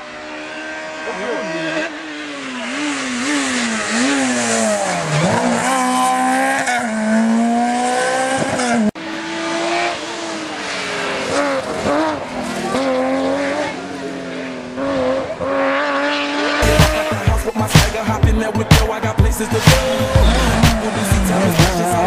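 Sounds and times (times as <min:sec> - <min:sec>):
rally car engine at high revs: 0:00.0 - 0:22.0.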